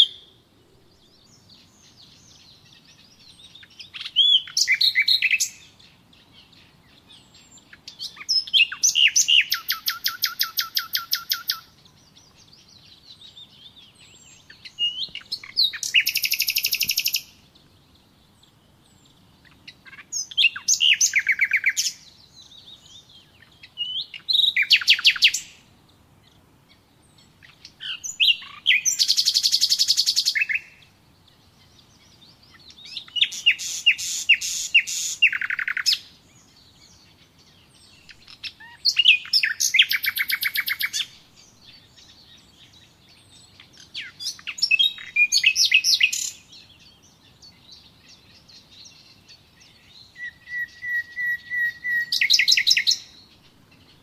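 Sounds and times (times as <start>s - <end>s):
faint bird chirps: 0.0s - 54.0s
songbirds trilling: 0.0s - 54.0s.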